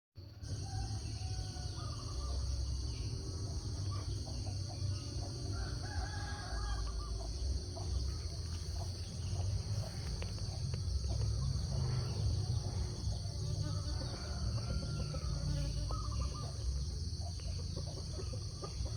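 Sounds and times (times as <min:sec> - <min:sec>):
constant low rumble: 0:00.2 - 0:18.9
insects droning: 0:00.2 - 0:18.9
bird calls: 0:00.5 - 0:18.9.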